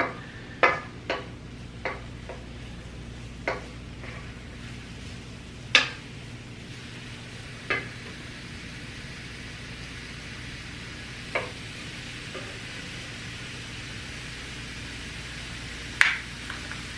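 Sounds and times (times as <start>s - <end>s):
mushrooms sizzling in oil: 0.0s - 16.9s.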